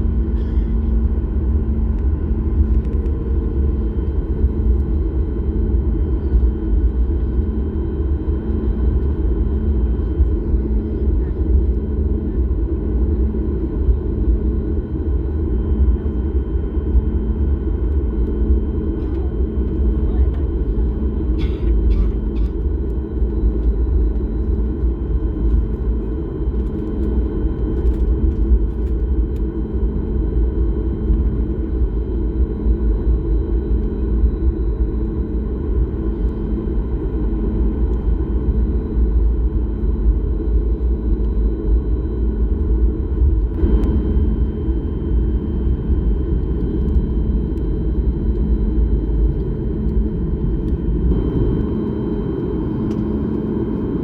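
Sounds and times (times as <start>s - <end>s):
airliner engine rumble in cabin: 0.0s - 54.0s.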